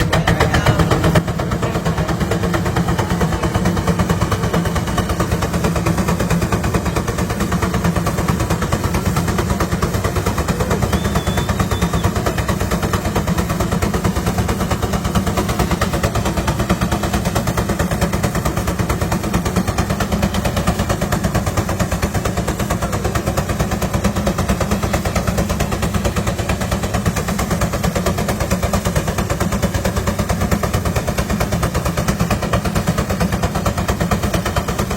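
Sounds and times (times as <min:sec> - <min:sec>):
engine exhaust reports: 0:00.0 - 0:34.9.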